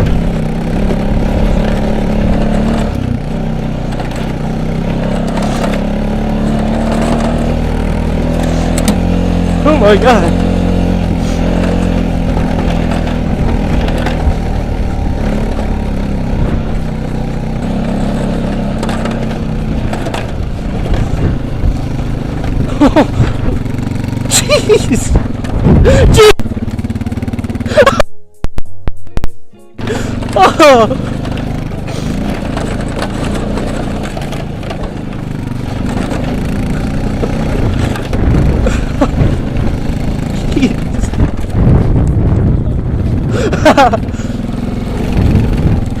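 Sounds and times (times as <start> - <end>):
knocks and rattles: 0.0 - 27.9, 30.1 - 46.0
off-road vehicle engine running: 0.0 - 28.1, 29.8 - 46.0.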